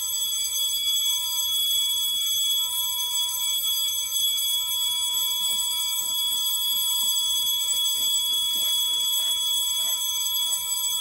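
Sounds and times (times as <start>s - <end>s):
high-pitched alarm tone: 0.0s - 11.0s.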